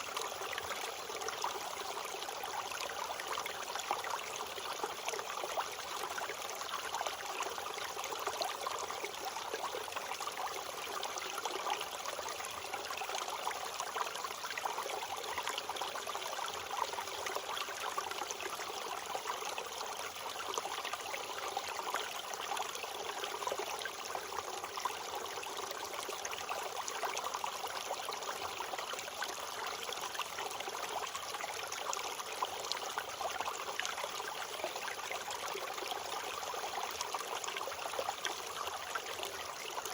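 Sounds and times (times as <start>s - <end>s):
stream babbling and splashing: 0.0s - 39.9s.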